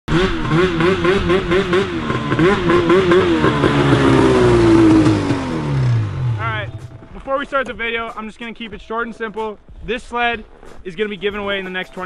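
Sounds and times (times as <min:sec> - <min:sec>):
snowmobile engine running: 0:00.1 - 0:10.4.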